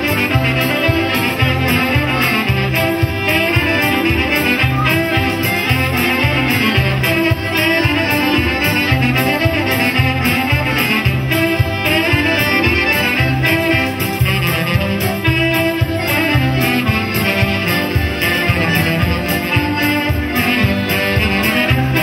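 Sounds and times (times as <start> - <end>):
brass folk dance music: 0.0 - 22.0.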